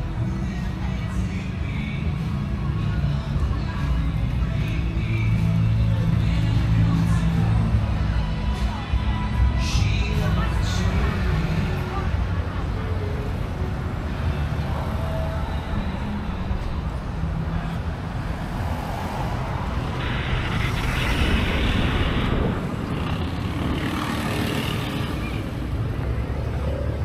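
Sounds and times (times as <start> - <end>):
low traffic rumble: 0.0 - 27.0
vehicles passing: 0.0 - 27.0.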